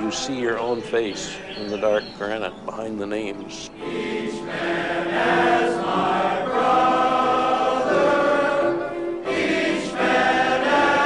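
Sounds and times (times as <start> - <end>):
male choir singing: 0.0 - 11.0.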